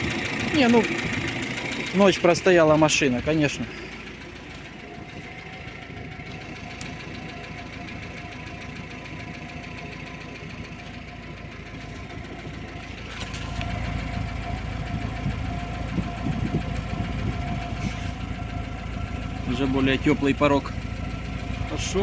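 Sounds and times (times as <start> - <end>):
car engine running: 0.0 - 22.0
fast ticking engine knock: 0.0 - 22.0.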